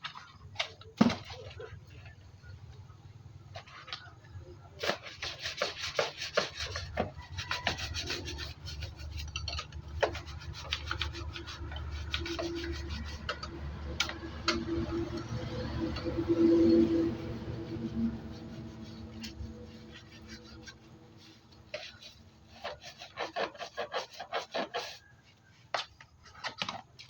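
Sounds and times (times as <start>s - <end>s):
rubbing and scraping: 0.0s - 27.0s.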